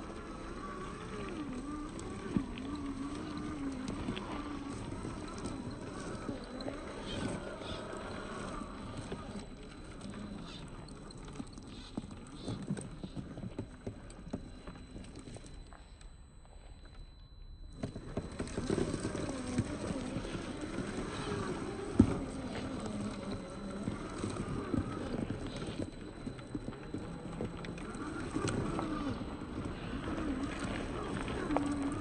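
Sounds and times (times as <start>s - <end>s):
tyres crunching on dirt and rocks: 0.0s - 15.6s, 17.8s - 32.0s
electric motor whine: 0.0s - 32.0s.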